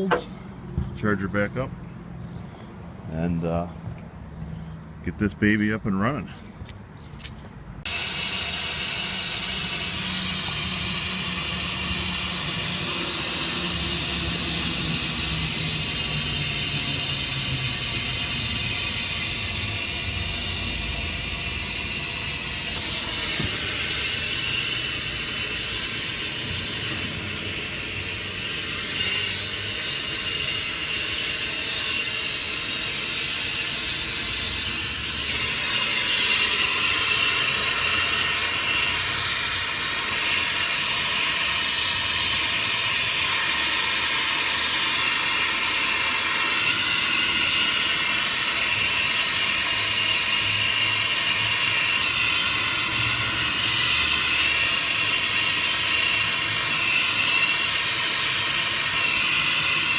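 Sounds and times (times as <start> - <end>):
rushing air hiss: 7.9 - 59.9.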